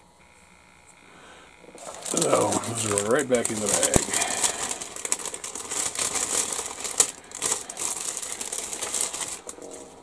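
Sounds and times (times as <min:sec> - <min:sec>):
plastic bag crinkling: 0:01.3 - 0:10.0
plastic sprues clicking: 0:01.8 - 0:09.8.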